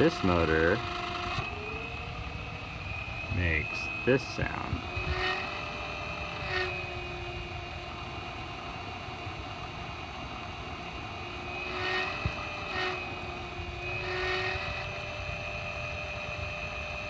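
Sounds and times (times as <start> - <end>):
motor whining: 0.0 - 17.0.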